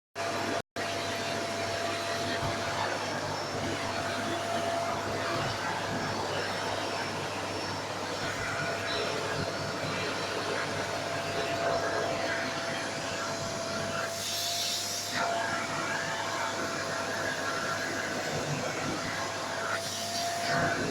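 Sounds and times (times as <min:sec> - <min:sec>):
vacuum cleaner running: 0:00.2 - 0:20.9.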